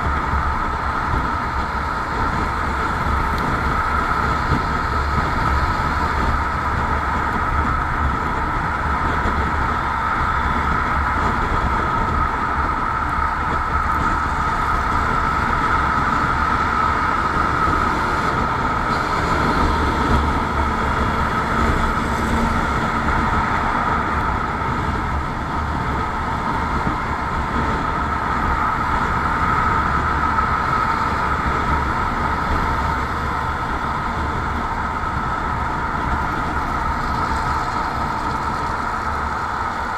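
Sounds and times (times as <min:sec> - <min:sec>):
motorcycle engine drone: 0:00.0 - 0:39.9
road and wind noise: 0:00.0 - 0:39.9.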